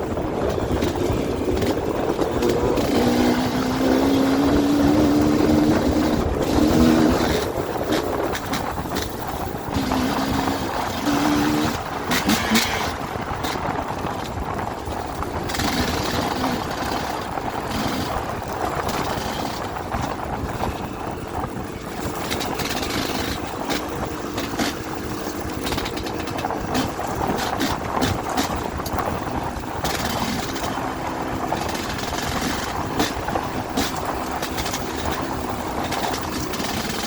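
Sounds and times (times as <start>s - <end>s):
dirt bike engine running: 0.0s - 37.0s.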